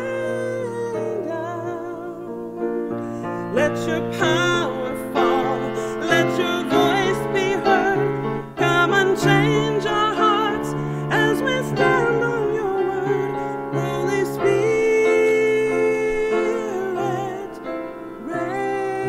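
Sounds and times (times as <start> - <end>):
piano accompaniment: 0.0 - 19.0
woman singing worship song: 0.0 - 19.0.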